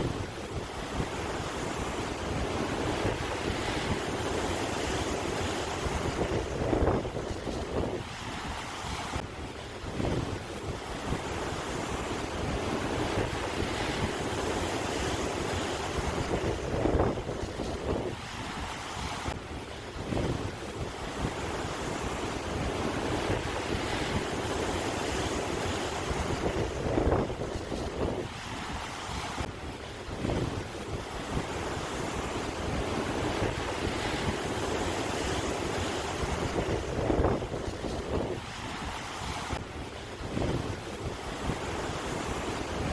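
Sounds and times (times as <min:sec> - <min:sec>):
sea waves surging: 0:00.0 - 0:42.9
wind buffeting microphone: 0:00.0 - 0:42.9.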